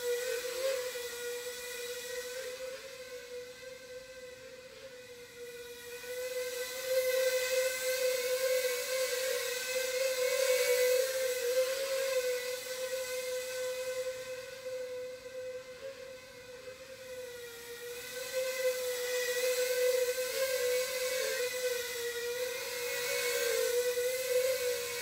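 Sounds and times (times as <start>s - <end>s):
tiny drone motors whining: 0.0s - 25.0s.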